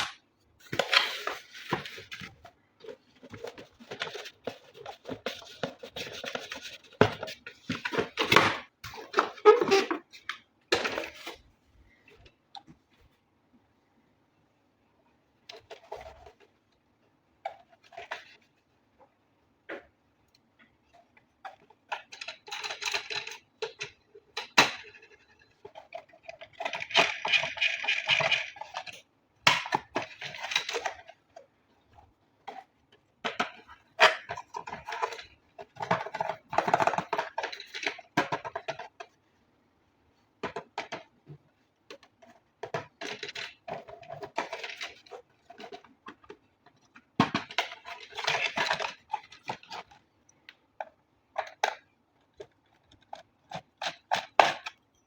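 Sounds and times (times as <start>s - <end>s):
plastic parts clicking and knocking: 0.0s - 12.8s, 15.4s - 39.3s, 40.0s - 55.0s.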